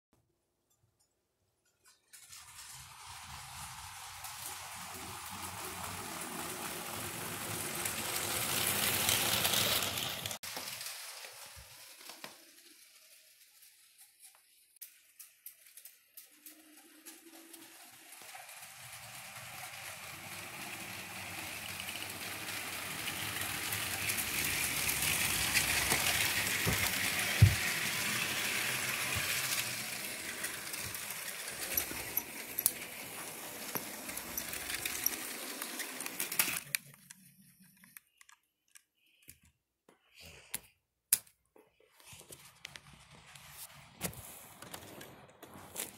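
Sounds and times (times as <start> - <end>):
toy train rattling on plastic track: 1.6 - 39.1.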